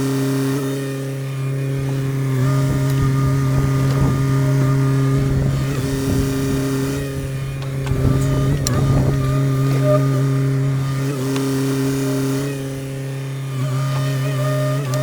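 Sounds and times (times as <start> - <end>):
excavator diesel engine running: 0.0 - 15.0
low rumbles of machine work: 0.0 - 15.0.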